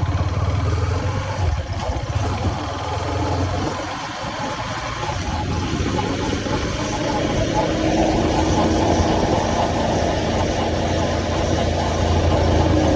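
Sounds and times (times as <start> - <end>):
motorcycle engine pulsing: 0.0 - 12.9.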